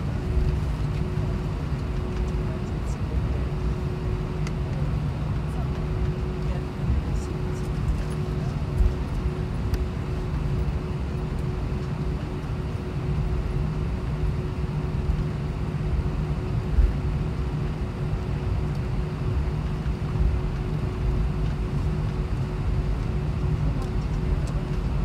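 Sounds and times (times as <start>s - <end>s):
faint cabin hum: 0.0s - 25.0s
jet engines idling rumble: 0.0s - 25.0s.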